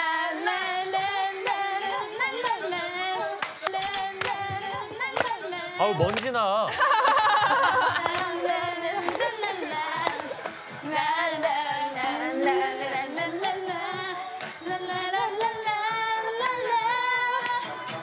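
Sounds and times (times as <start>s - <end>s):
women singing karaoke: 0.0s - 6.0s, 6.7s - 18.0s
pop backing music: 0.0s - 18.0s.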